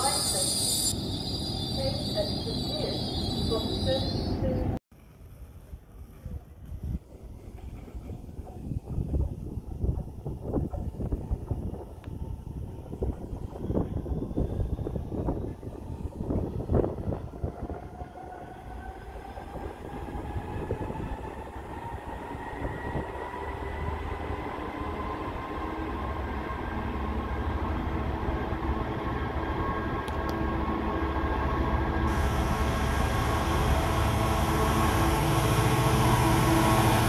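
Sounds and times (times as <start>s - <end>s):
train whine: 0.0s - 37.0s.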